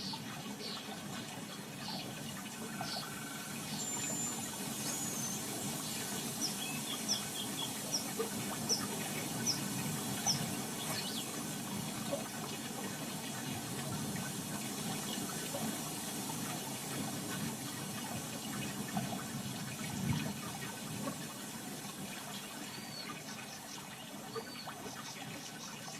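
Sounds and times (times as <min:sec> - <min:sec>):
water rushing: 0:00.0 - 0:25.9.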